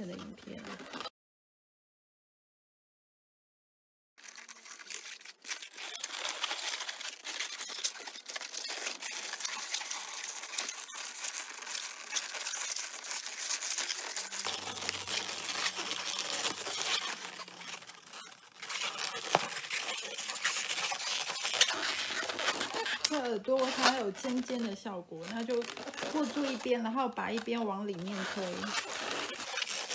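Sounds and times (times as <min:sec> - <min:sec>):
balloons rubbing and crackling: 0:00.0 - 0:01.1, 0:04.2 - 0:29.9.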